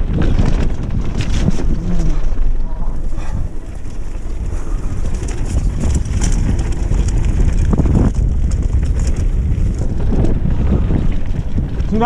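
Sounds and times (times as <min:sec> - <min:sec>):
bike clattering over bumps: 0:00.0 - 0:12.0
tyres crunching over stones: 0:00.0 - 0:12.0
wind buffeting microphone: 0:00.0 - 0:12.0.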